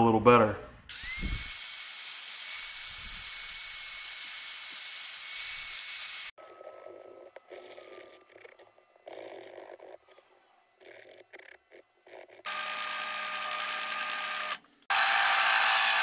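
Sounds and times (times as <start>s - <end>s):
angle grinder grinding steel: 0.9s - 6.4s, 7.1s - 16.0s.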